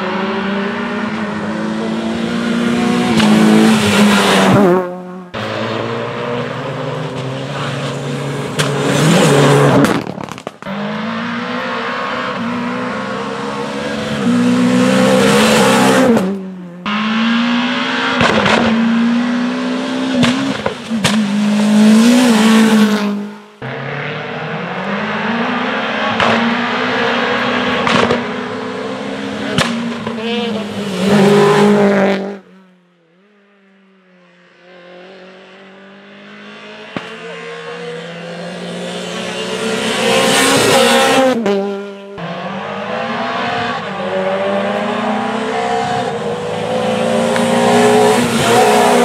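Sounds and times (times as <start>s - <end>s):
rally cars passing at full throttle: 0.0s - 49.0s.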